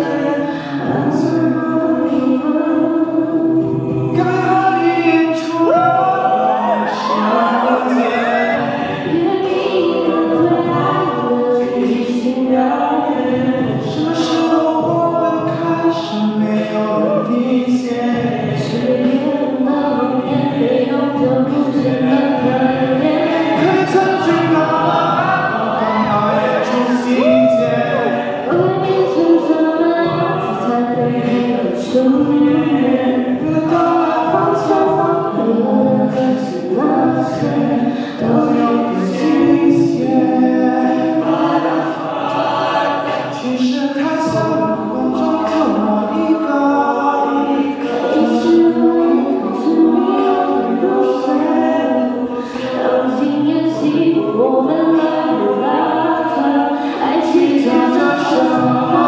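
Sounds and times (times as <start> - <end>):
choir of backing voices: 0.0 - 59.0
lead singer: 0.0 - 59.0
vocal percussion: 0.0 - 59.0.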